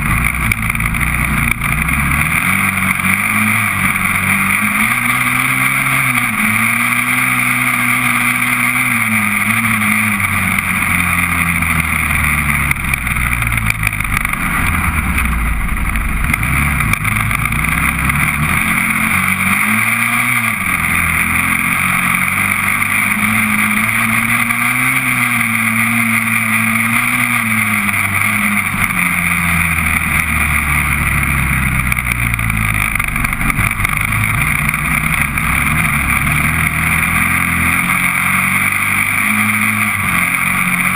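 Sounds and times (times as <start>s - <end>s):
engine revving: 0.0s - 40.9s.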